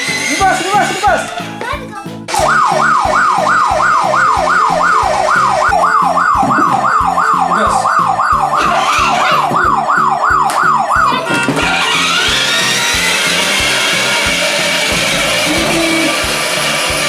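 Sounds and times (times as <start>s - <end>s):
toy electronic siren wailing: 2.3s - 16.4s.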